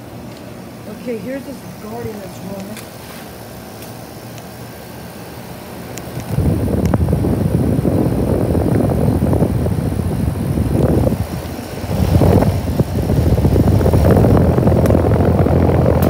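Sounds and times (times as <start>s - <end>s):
condenser fan rushing rumble: 0.0s - 16.0s.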